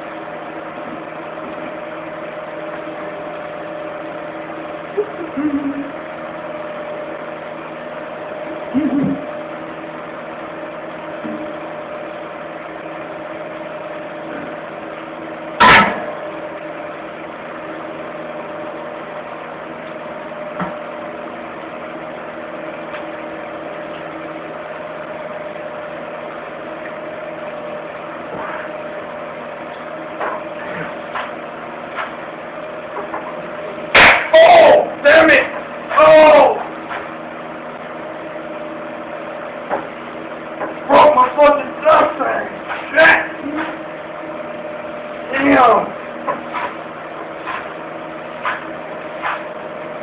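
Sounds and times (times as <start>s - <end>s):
fan heater humming and whirring: 0.0s - 50.0s.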